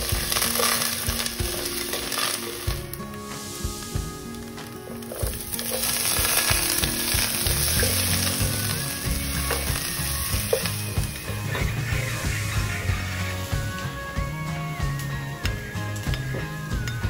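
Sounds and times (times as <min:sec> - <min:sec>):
onions sizzling in hot oil: 0:00.0 - 0:16.8
background music: 0:00.0 - 0:17.0.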